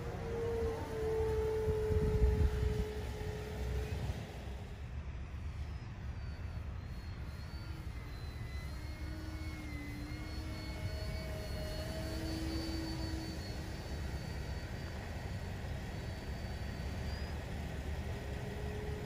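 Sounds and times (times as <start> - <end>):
model plane motor whine: 0.0 - 19.0.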